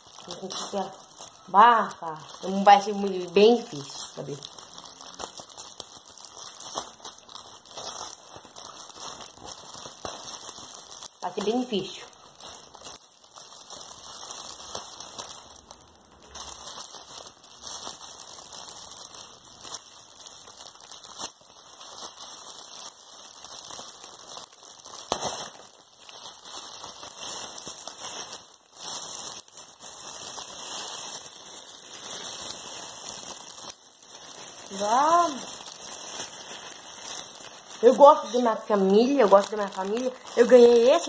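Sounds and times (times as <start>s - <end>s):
cellophane crinkling: 0.0s - 41.0s.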